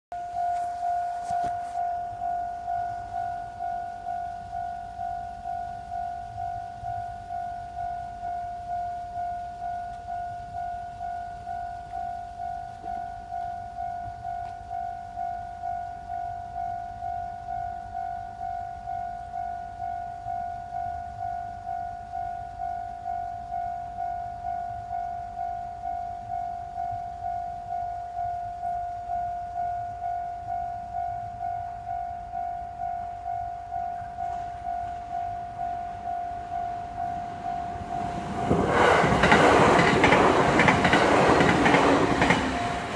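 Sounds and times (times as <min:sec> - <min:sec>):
level crossing warning bell ringing: 0:00.2 - 0:42.9.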